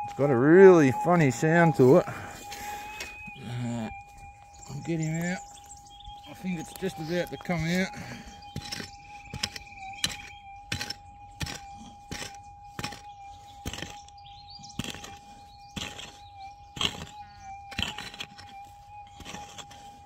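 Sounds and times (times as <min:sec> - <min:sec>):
metal detector hum: 0:00.7 - 0:20.0.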